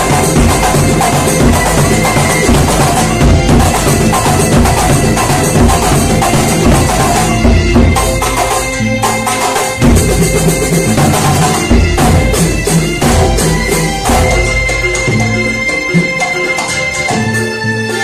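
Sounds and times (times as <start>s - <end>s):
drums and percussion: 0.0s - 18.0s.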